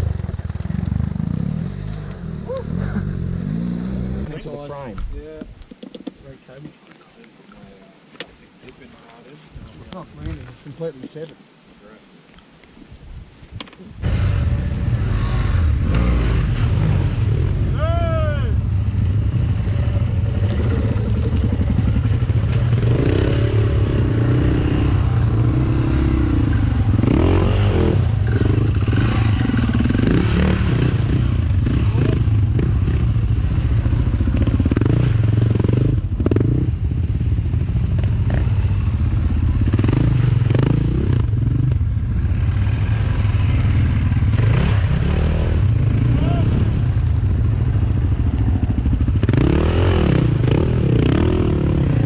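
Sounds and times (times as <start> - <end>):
dirt bike engines revving: 0.0 - 5.5, 14.0 - 52.0.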